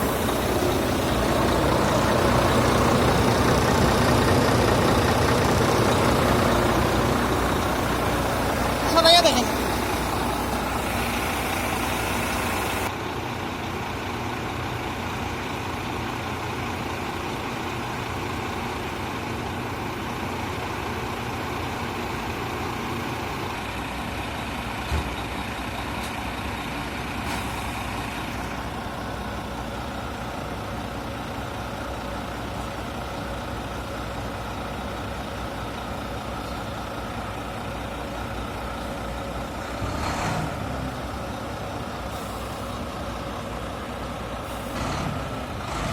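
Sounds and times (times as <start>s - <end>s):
old truck engine idling: 0.0s - 45.9s.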